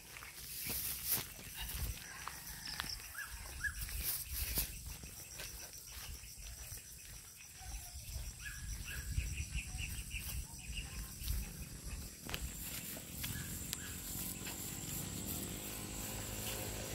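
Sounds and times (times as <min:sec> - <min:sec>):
high insect drone: 0:00.2 - 0:16.9
small birds chirping: 0:03.0 - 0:16.9.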